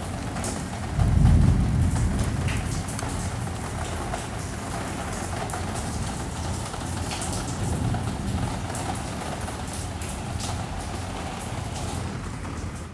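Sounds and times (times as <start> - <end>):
rain on window glass: 0.0 - 12.9.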